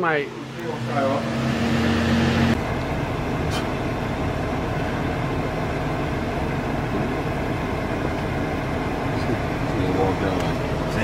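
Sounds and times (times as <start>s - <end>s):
car engine running: 0.2s - 11.0s.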